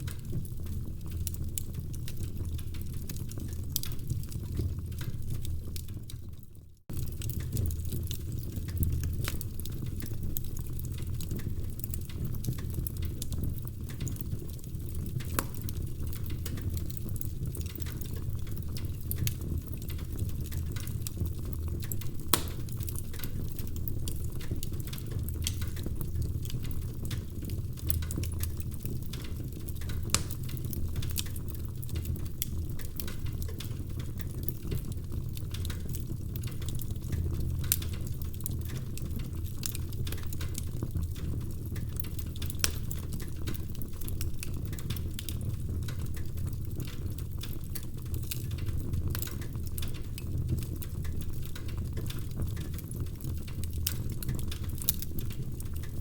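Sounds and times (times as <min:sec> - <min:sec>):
log fire crackling: 0:00.0 - 0:56.0.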